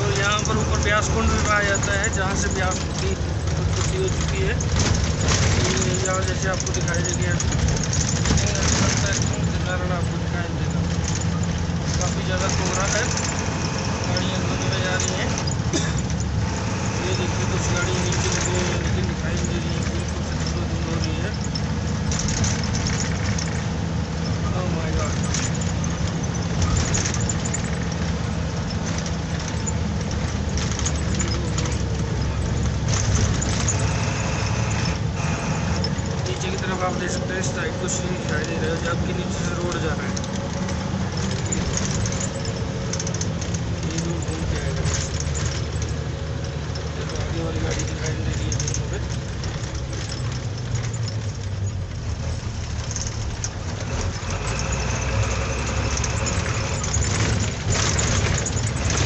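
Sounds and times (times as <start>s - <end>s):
rattles and clicks: 0.0s - 59.0s
road noise: 0.0s - 59.0s
truck engine running: 0.0s - 59.0s.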